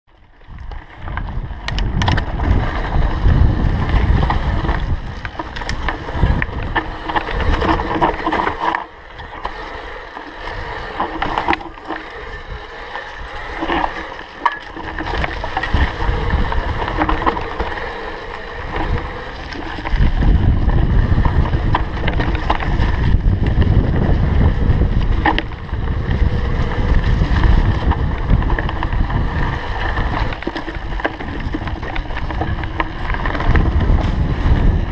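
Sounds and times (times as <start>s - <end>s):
bike rattling over bumps: 0.1s - 34.9s
tyres on dirt: 0.1s - 34.9s
wind buffeting microphone: 0.3s - 34.9s.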